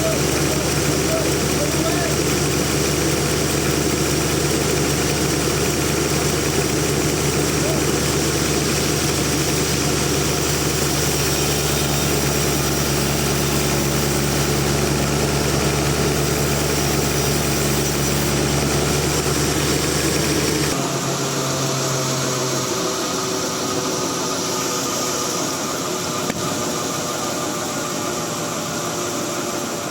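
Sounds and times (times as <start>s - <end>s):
engine idling hum: 0.0s - 29.9s
noisy whir: 0.0s - 29.9s.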